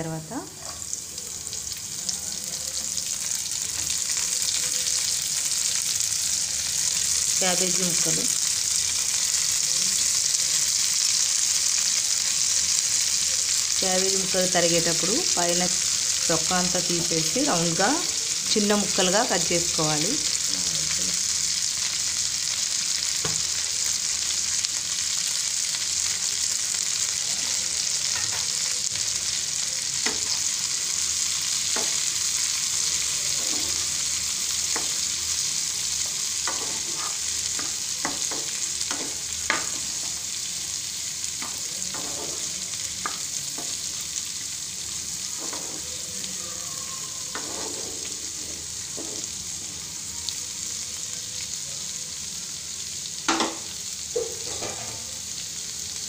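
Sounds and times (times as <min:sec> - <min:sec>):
cabbage sizzling in a frying pan: 0:00.0 - 0:56.0.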